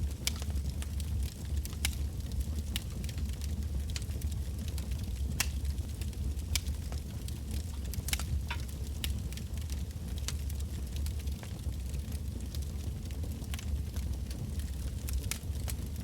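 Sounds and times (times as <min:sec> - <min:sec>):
bonfire logs crackling and popping: 0:00.0 - 0:16.0
low fire rumble: 0:00.0 - 0:16.0.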